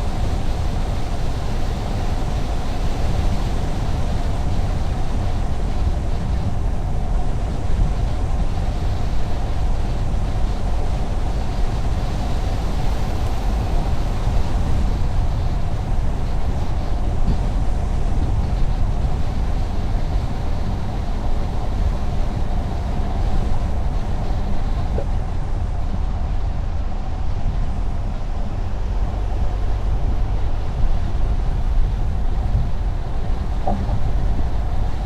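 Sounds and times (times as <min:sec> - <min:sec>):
car road noise on highway: 0:00.0 - 0:35.0
faint steady hum: 0:00.0 - 0:35.0.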